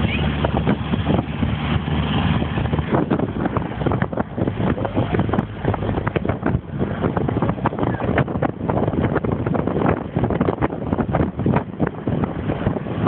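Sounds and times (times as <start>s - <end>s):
buggy engine rumble: 0.0s - 13.0s
wind buffeting microphone: 0.0s - 13.0s.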